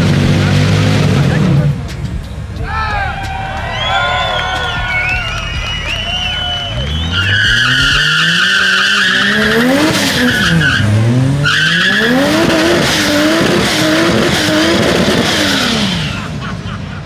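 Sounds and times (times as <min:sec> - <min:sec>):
car engine revving: 0:00.0 - 0:17.0
tyres screeching: 0:02.6 - 0:16.3.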